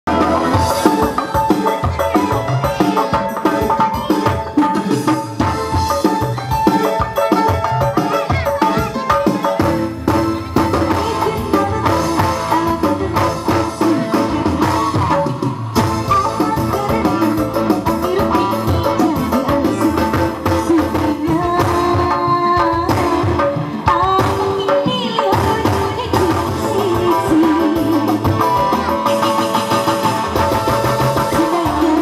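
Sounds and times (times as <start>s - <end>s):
keyboard melody: 0.0s - 32.0s
hand drums quick rhythm: 0.1s - 32.0s.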